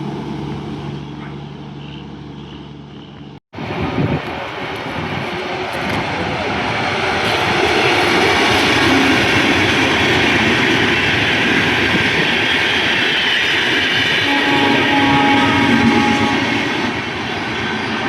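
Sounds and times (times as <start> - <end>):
train rumbling and rattling: 0.0 - 18.0.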